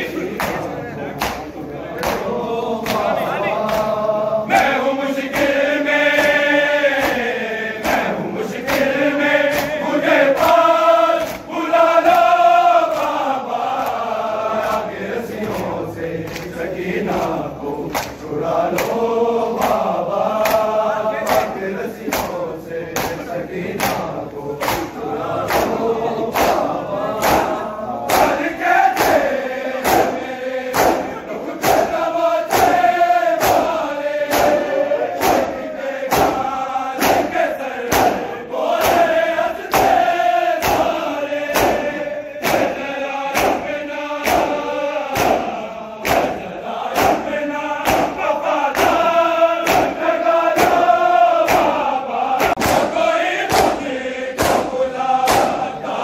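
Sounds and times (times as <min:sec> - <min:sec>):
men chanting in chorus: 0:00.0 - 0:56.0
hands slapping chests: 0:00.2 - 0:55.8.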